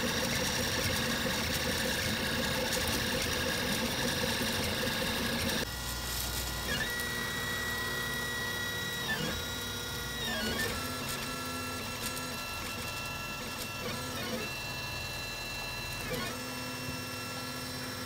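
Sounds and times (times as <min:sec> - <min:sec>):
stepper motors whining: 0:00.0 - 0:05.7, 0:06.4 - 0:18.0.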